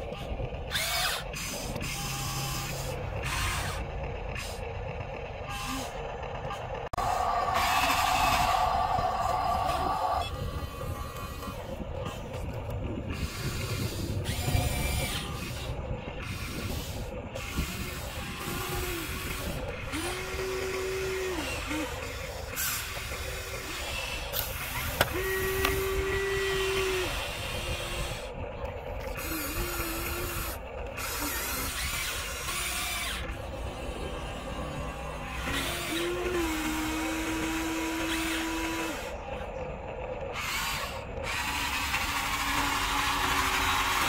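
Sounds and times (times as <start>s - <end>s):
small electric motors whining: 0.0s - 44.0s
steady mechanical noise: 0.0s - 44.0s.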